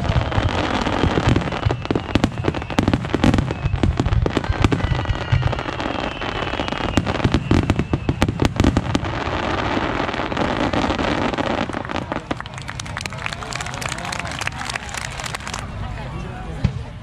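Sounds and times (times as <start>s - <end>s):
firework crackling: 0.0s - 15.6s.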